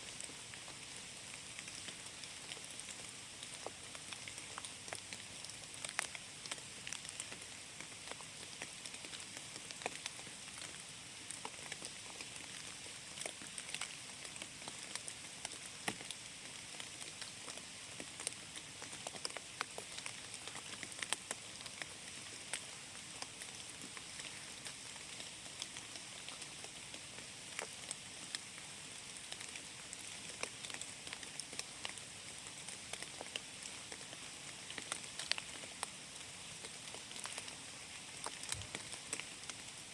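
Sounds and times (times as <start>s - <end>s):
rain hissing in a forest: 0.0s - 39.9s.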